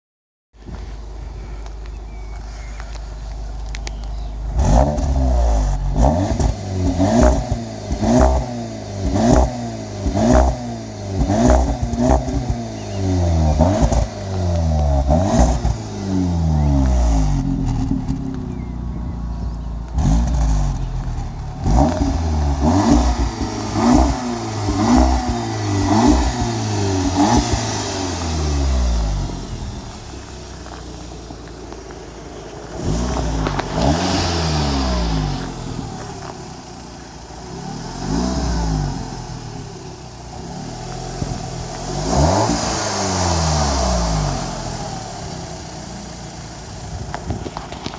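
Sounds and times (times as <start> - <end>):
car engine revving: 0.6 - 47.9.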